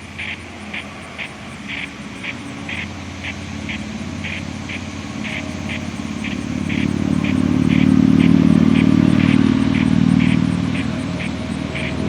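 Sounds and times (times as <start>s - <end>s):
warning siren steady tone: 0.0s - 12.0s.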